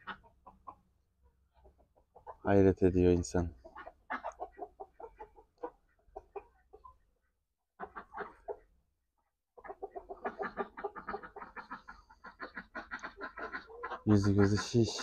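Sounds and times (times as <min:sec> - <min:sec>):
chickens clucking: 0:00.0 - 0:08.9, 0:09.5 - 0:15.0.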